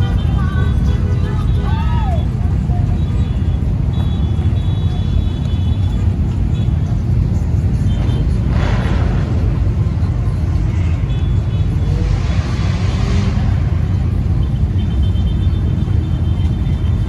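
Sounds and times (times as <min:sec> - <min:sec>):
low car rumble: 0:00.0 - 0:17.0.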